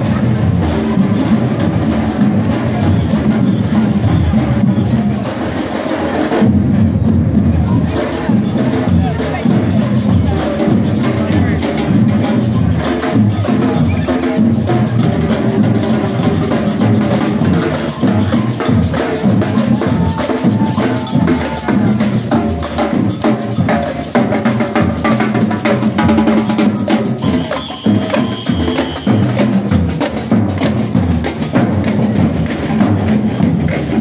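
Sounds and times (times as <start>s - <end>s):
marching band drums: 0.0s - 34.0s.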